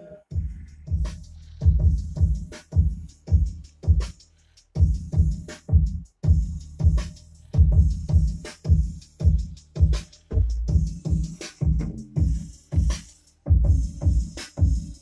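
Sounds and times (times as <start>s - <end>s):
hip-hop drum loop: 0.0s - 15.0s.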